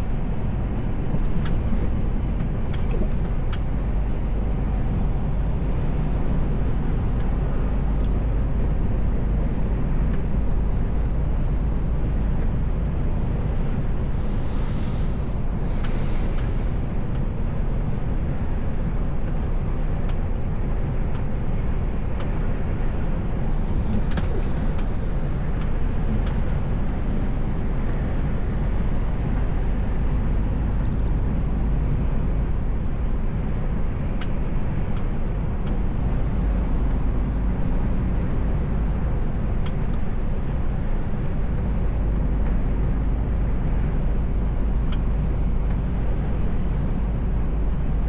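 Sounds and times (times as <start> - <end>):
truck engine and road rumble: 0.0 - 48.0.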